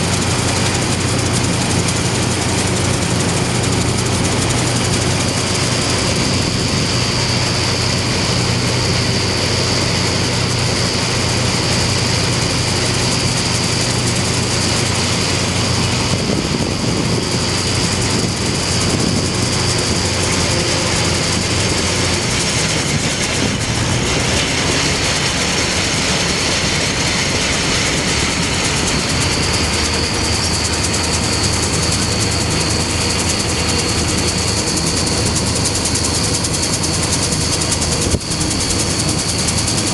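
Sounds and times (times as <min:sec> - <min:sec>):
combine harvester and tractor drone: 0:00.0 - 0:39.9
high mechanical whine: 0:00.0 - 0:39.9.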